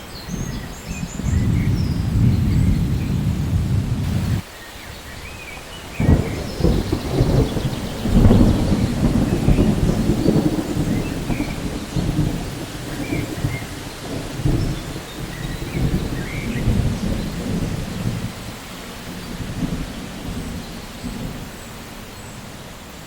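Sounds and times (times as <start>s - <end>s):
rain falling: 0.0s - 23.0s
thunder rumbling: 0.2s - 4.4s, 5.9s - 22.6s.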